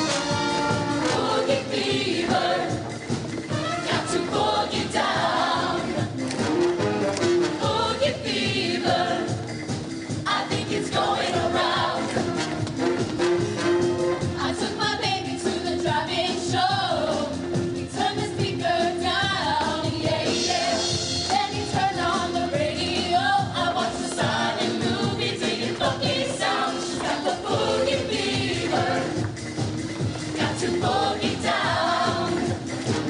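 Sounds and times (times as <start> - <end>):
choir singing pop song: 0.0 - 6.3, 7.5 - 12.6, 14.2 - 33.0
instrumental accompaniment with beat: 0.0 - 33.0.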